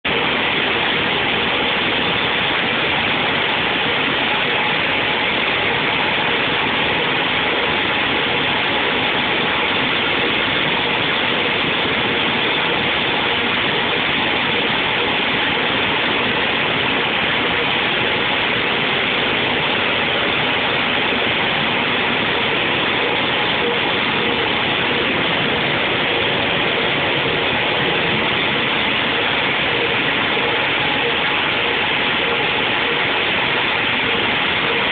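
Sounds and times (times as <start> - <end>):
machine rushing noise: 0.1 - 34.9.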